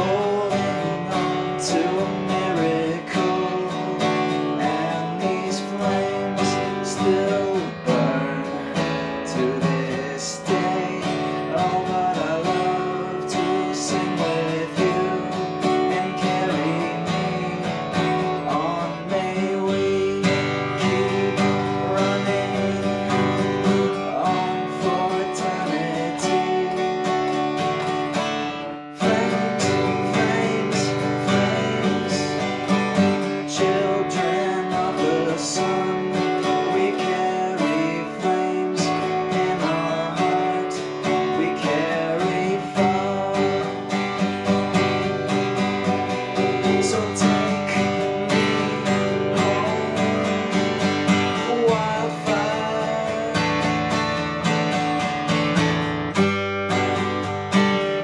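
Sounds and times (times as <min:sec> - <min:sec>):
guitar strummed and picked: 0:00.0 - 0:58.0.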